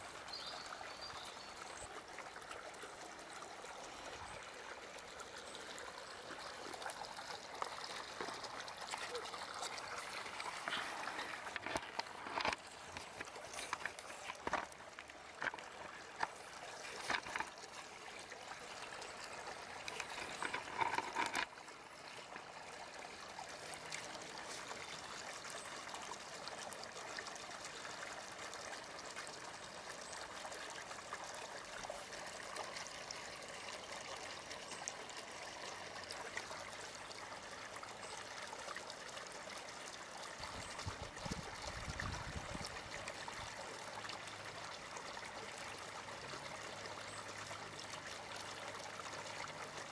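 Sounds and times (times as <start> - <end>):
trickle of running water: 0.0 - 49.9.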